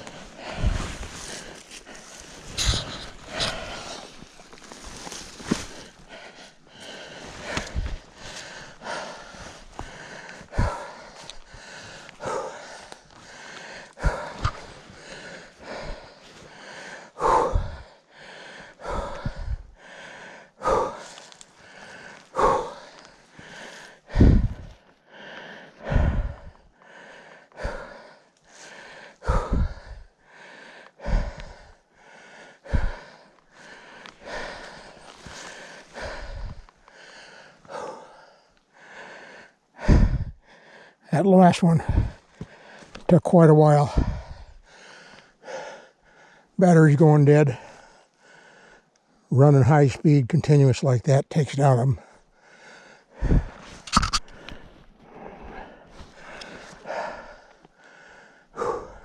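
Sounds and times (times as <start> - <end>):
man breathing hard: 0.0 - 49.7, 51.4 - 59.0.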